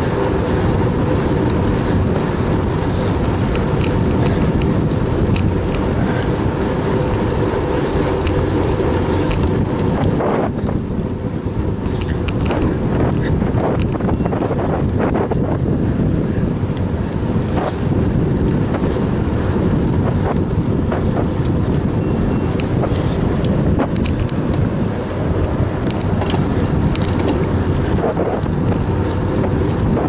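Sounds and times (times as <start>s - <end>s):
bicycle clicks and rattles: 0.0s - 30.0s
wind buffeting microphone: 0.0s - 30.0s.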